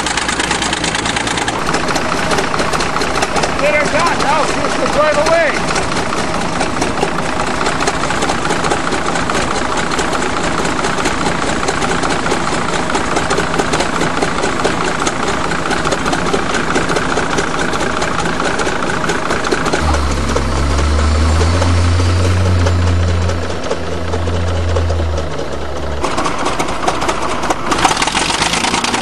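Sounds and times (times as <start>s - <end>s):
bulldozer diesel engine clattering: 0.0s - 29.0s.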